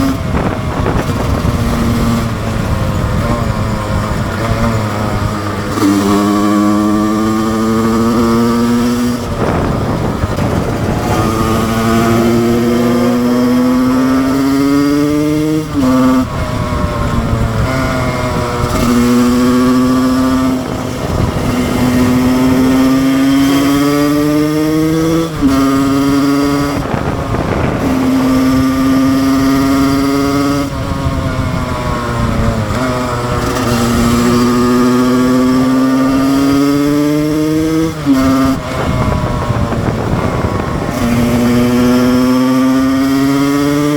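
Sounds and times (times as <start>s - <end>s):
two-stroke engine at high revs: 0.0s - 43.9s.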